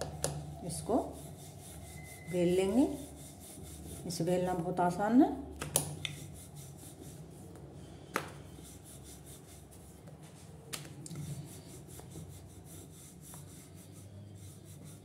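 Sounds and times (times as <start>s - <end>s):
rolling pin rubbing on dough: 0.0s - 5.0s, 6.1s - 10.6s, 11.2s - 15.0s.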